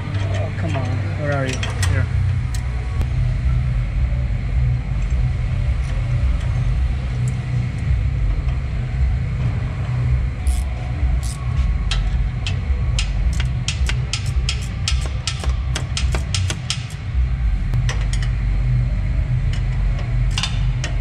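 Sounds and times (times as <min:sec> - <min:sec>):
background machinery rumble: 0:00.0 - 0:21.0.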